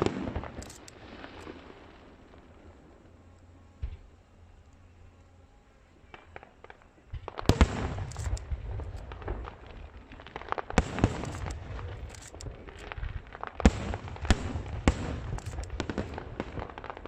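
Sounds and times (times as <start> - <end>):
fireworks bursting with crackling: 0.0 - 4.3, 5.9 - 17.0.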